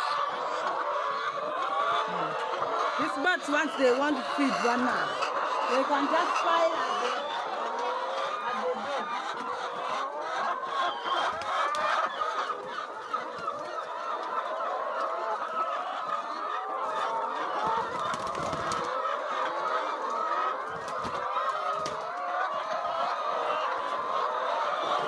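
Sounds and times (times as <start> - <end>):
flock of chickens clucking: 0.0 - 25.0.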